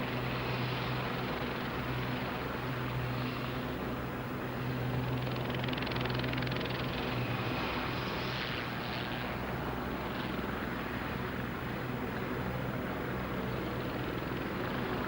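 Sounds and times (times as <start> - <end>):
helicopter turbine whine and rotor: 0.0 - 15.0.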